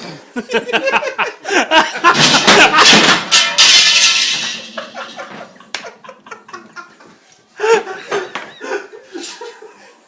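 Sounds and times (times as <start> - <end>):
people laughing: 0.1 - 3.0, 4.8 - 10.0.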